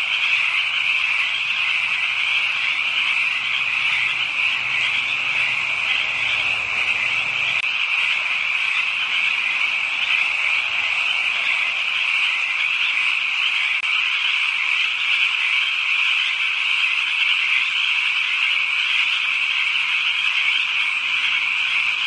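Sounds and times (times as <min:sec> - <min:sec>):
chorus of frogs calling: 0:00.0 - 0:22.0.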